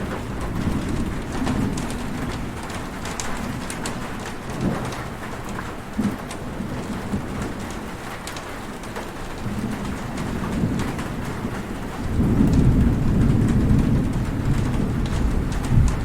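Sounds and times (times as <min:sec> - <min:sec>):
heavy rain falling: 0:00.0 - 0:16.0
rain drop ticks: 0:00.0 - 0:16.0
thunder rumbling: 0:00.0 - 0:16.0.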